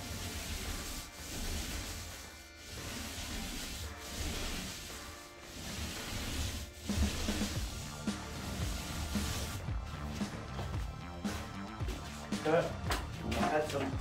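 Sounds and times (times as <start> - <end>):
paint roller rolling on ceiling: 0.0 - 14.0.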